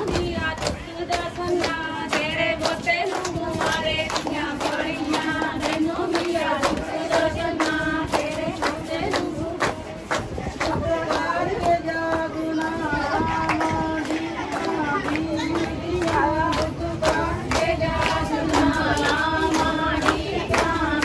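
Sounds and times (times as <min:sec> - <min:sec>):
rhythmic hand clapping: 0:00.0 - 0:21.0
women singing together: 0:00.0 - 0:21.0.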